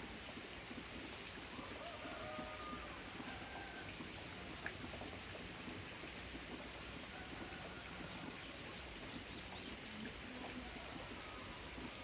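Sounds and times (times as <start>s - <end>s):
rain on leaves: 0.0s - 12.0s.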